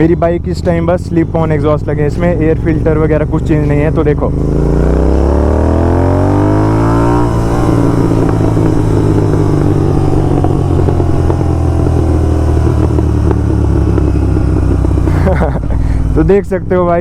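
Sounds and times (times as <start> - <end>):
motorcycle engine accelerating: 0.0 - 17.0
exhaust crackles and pops: 3.2 - 17.0.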